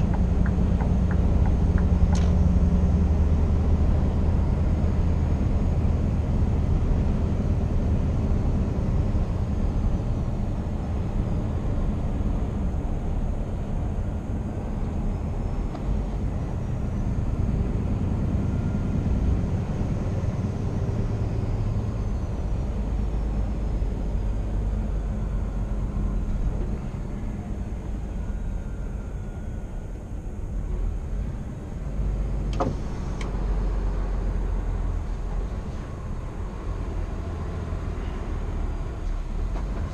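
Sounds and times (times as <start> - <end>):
road noise: 0.0 - 39.9
truck diesel engine rumbling: 0.0 - 39.9.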